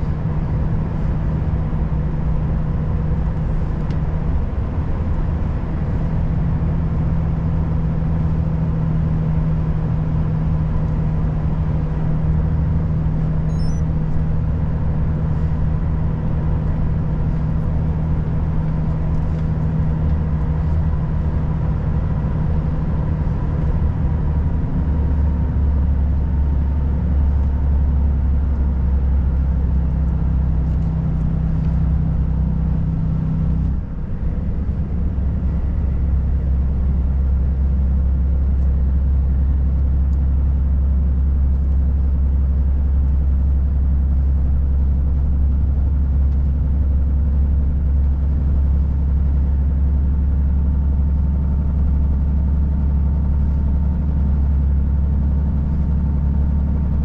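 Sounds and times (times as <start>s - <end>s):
diesel truck engine running: 0.0s - 57.0s
road noise: 0.0s - 57.0s.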